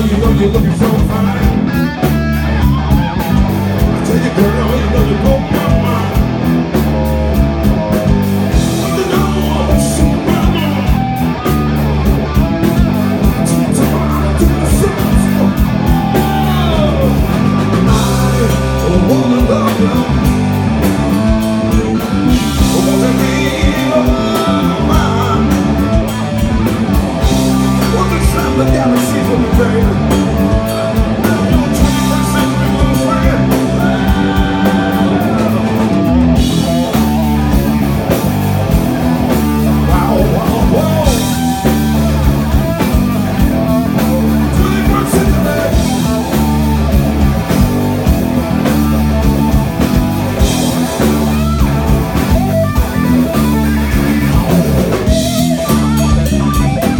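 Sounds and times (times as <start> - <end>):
blues-rock band playing: 0.0 - 56.9
electric guitar bending notes: 0.0 - 56.9.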